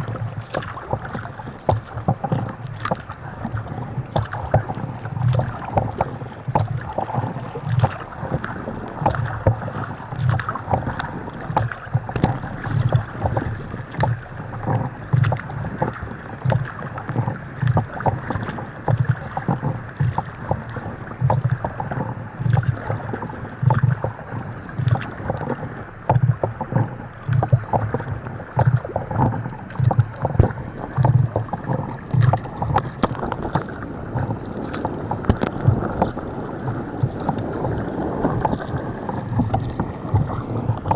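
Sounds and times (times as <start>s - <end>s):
paddle strokes: 0.0s - 40.9s
water splashing against hull: 0.0s - 40.9s.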